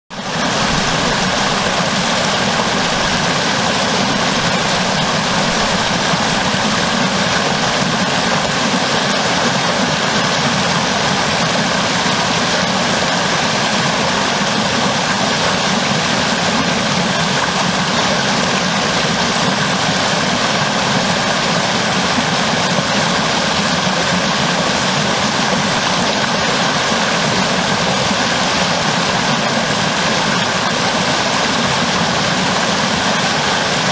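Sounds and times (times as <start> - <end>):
water cascading over log: 0.1 - 33.9.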